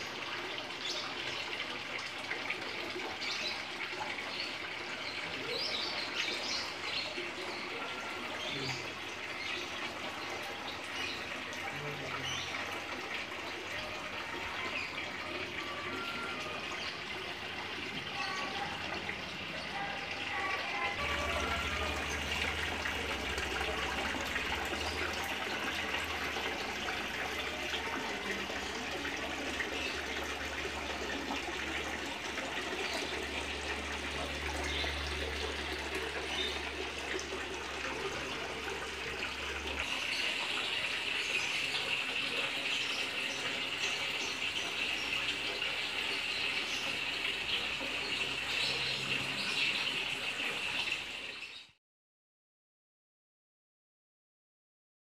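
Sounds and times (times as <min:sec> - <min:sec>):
fountain water splashing: 0:00.0 - 0:51.6.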